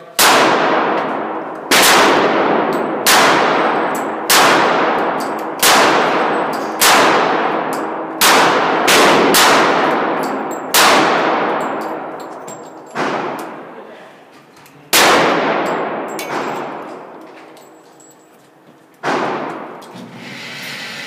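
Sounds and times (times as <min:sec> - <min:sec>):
handgun shots echoing: 0:00.2 - 0:13.7, 0:14.9 - 0:17.8, 0:19.0 - 0:19.9.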